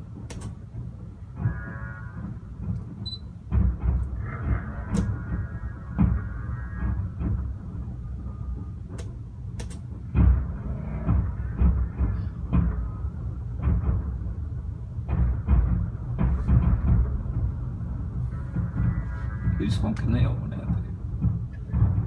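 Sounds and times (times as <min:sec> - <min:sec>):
continuous low rumble: 0:00.0 - 0:22.0
fireworks booms and cracks: 0:00.0 - 0:22.0.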